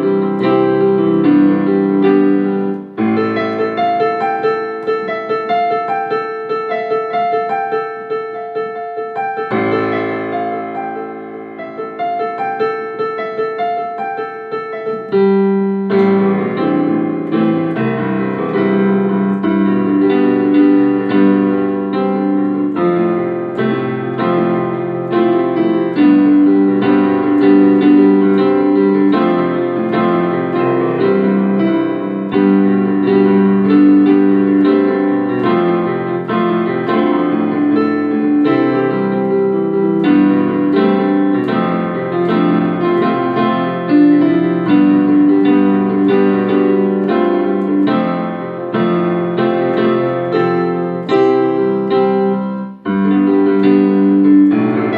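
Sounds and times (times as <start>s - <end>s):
gentle piano music: 0.0s - 54.9s.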